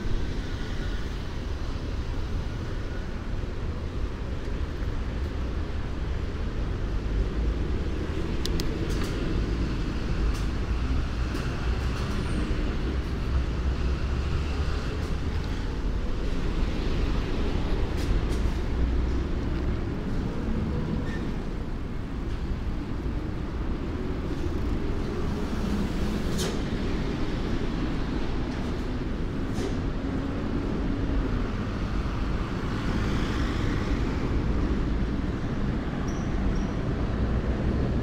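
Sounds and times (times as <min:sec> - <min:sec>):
street traffic rumble: 0:00.0 - 0:38.0.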